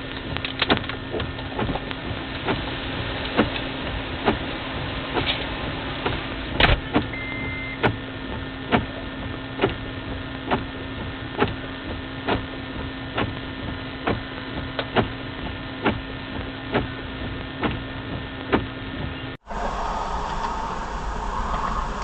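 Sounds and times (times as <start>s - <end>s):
electrical hum in car: 0.0s - 22.0s.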